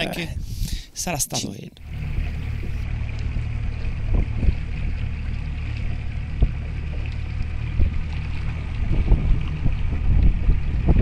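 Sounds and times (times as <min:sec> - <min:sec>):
boat motor running: 0:01.8 - 0:11.0.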